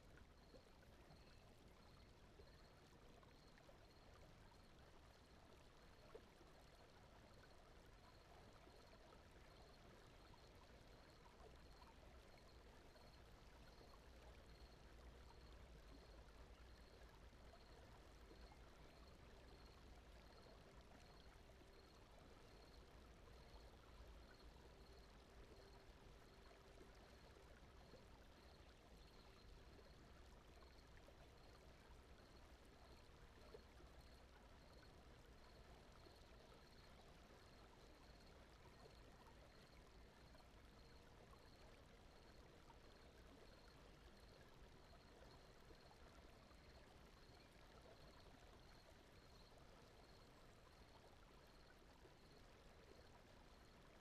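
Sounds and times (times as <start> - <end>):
faint brown noise: 0.0 - 54.0.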